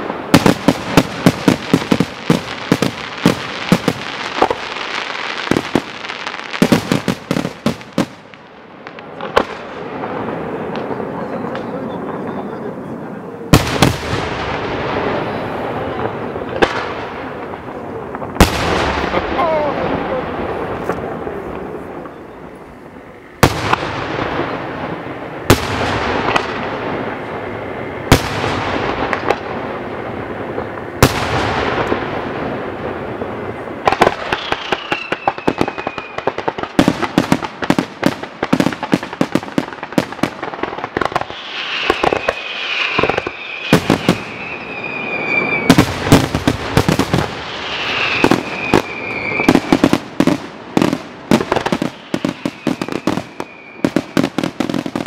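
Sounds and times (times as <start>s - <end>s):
firework booms with rolling echo: 0.0s - 55.0s
rapid firework bangs and crackling: 0.0s - 55.0s.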